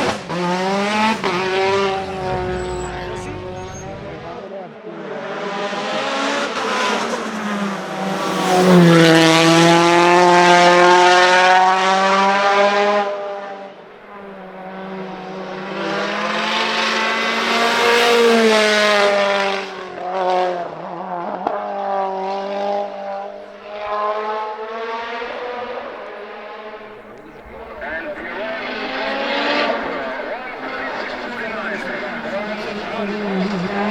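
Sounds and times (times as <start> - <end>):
race car engine at high revs: 0.0 - 33.9.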